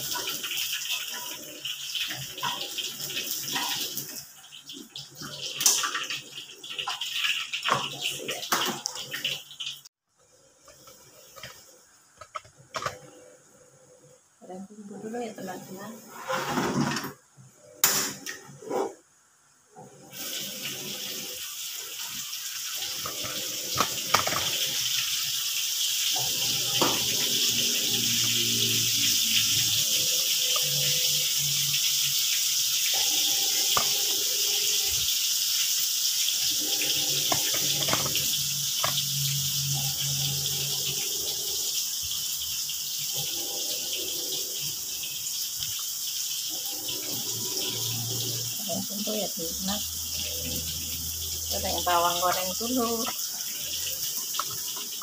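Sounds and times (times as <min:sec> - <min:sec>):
food sizzling in hot oil: 0:00.0 - 0:10.0, 0:19.1 - 0:55.0.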